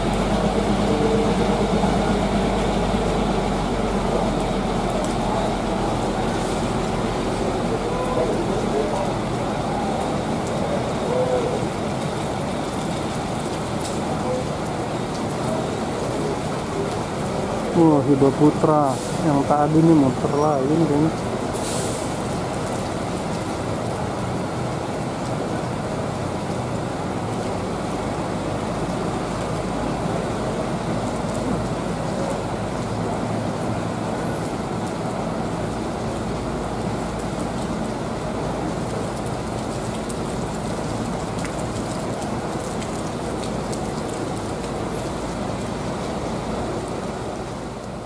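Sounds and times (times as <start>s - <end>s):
bus engines running: 0.0s - 48.0s
heavy rain on pavement: 0.0s - 48.0s.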